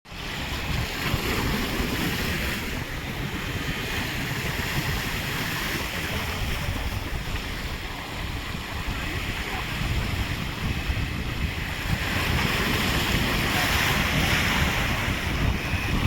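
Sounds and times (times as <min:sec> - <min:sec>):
waves breaking on shore: 0:00.1 - 0:16.0
wind buffeting microphone: 0:00.1 - 0:16.0.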